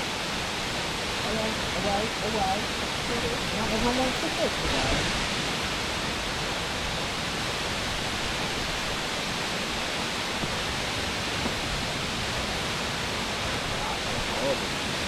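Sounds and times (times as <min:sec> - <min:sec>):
waterfall roar: 0:00.0 - 0:15.0.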